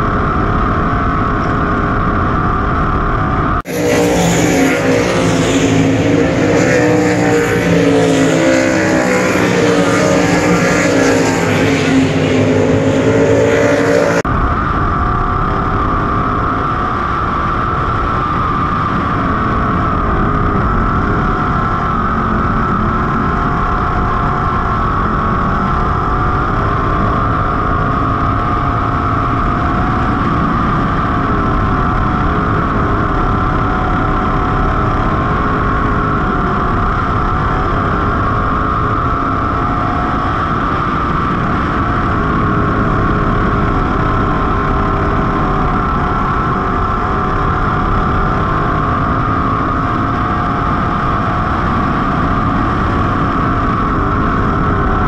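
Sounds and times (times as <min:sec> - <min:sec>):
onboard car engine rumble: 0:00.0 - 0:55.0
sprint car engines racing: 0:00.0 - 0:55.0.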